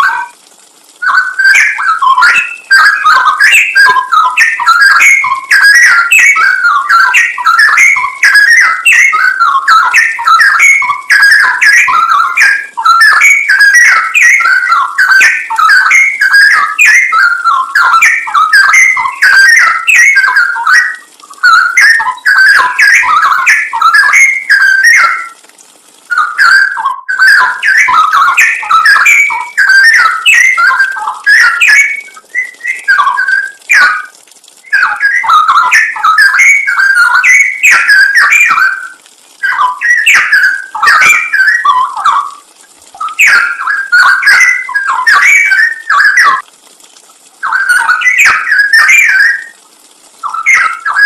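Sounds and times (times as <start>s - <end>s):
bulbul singing: 0.0s - 46.5s, 47.4s - 51.0s.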